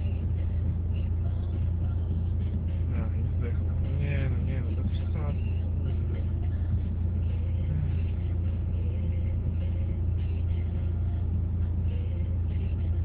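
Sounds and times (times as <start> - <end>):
car cabin drone: 0.0 - 13.0.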